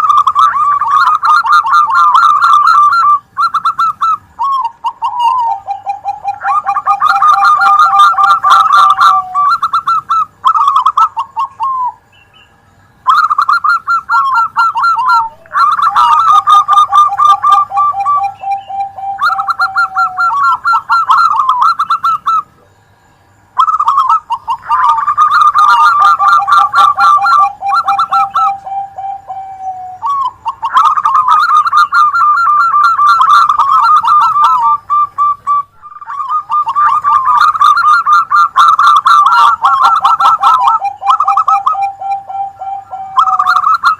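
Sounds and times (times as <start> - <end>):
doves cooing with trills: 0.0 - 43.9.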